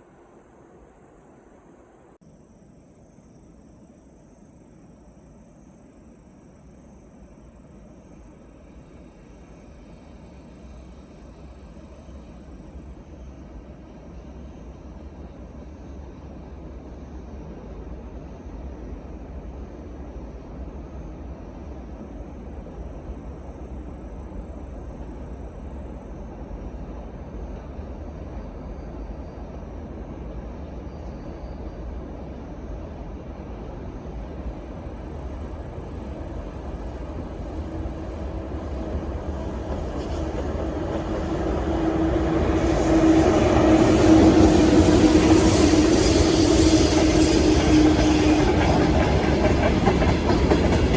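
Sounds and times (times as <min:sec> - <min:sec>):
freight train rumble: 0:00.0 - 0:50.9.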